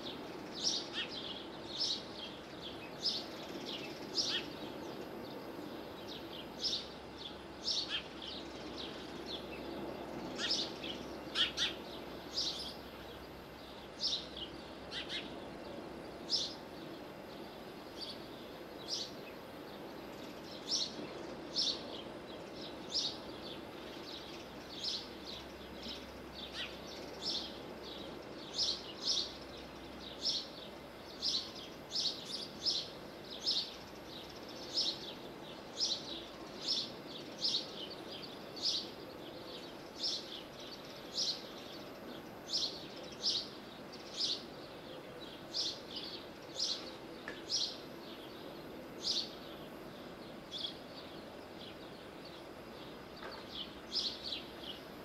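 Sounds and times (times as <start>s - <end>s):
bird chirping: 0.0s - 55.0s
low outdoor background hum: 0.0s - 55.0s.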